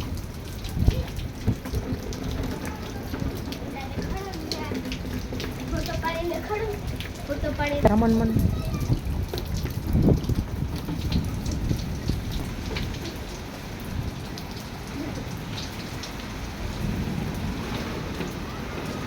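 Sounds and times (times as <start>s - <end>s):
heavy rain falling: 0.0s - 19.0s
sharp raindrop hits: 0.0s - 19.0s.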